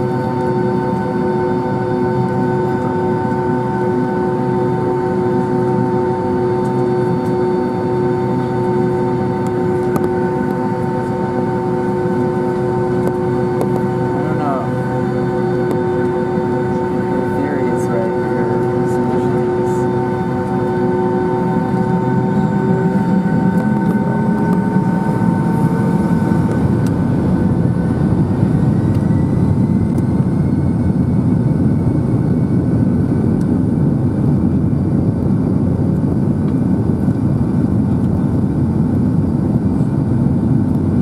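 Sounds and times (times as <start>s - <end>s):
jet engines rumbling and whining: 0.0s - 41.0s.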